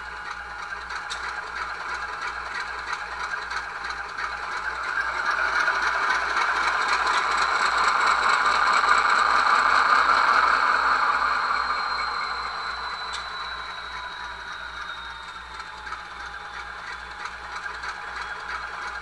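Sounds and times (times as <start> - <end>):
diesel engine sound from small speaker: 0.0 - 19.0.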